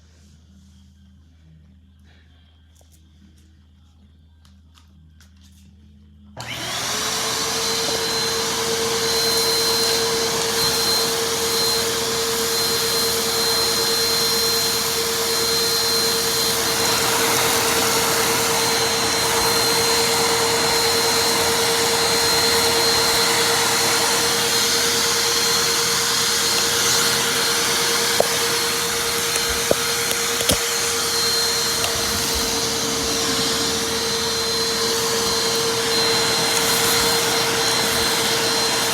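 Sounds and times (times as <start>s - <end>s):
vacuum cleaner motor whine: 6.4s - 38.9s.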